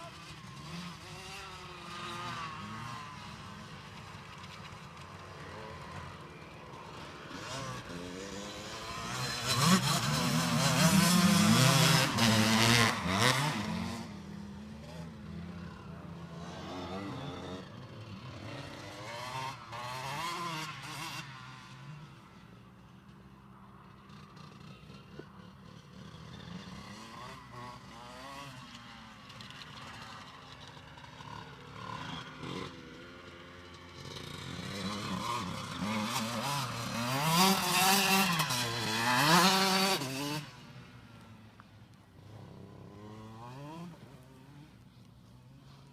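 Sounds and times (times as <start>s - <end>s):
motorbike passing close: 0.0s - 22.7s, 23.5s - 45.9s
motocross bikes revving: 0.0s - 45.9s.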